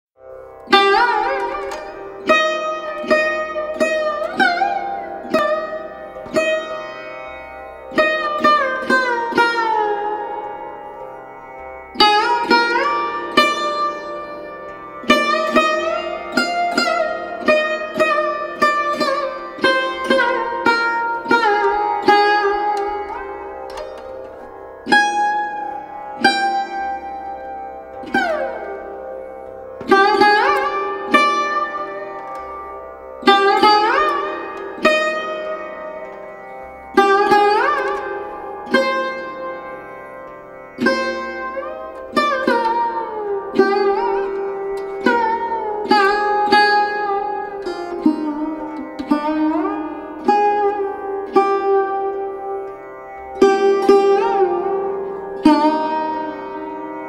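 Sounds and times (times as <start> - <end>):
plucked string melody: 0.2 - 57.0.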